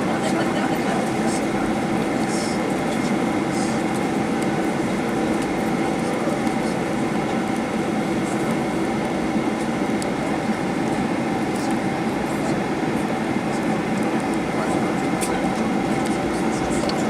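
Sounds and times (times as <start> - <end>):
aircraft cabin drone: 0.0 - 17.0
steady humming tones: 0.0 - 17.0.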